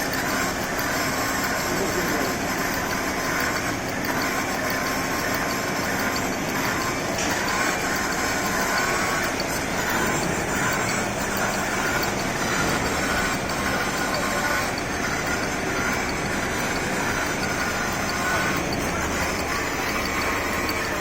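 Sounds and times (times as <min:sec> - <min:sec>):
lathe running: 0:00.0 - 0:21.0.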